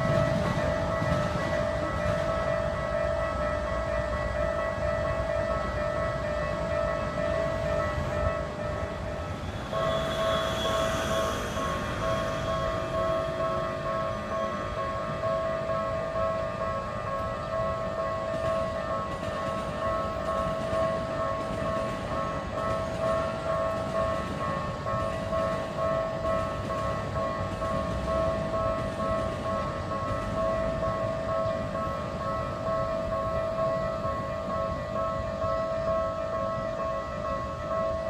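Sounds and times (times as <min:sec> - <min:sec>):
level-crossing warning bell: 0:00.0 - 0:38.0.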